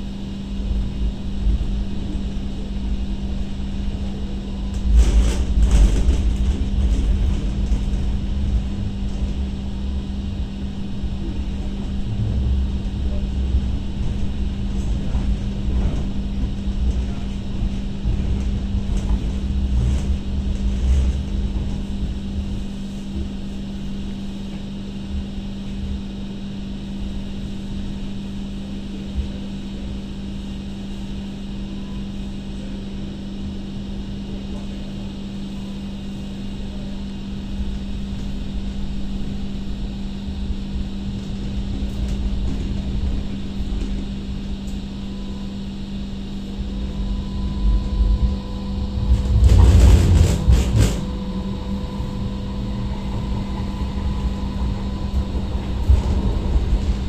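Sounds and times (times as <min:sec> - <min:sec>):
steady hum: 0:00.0 - 0:57.0
train wheels rumbling on track: 0:00.0 - 0:57.0.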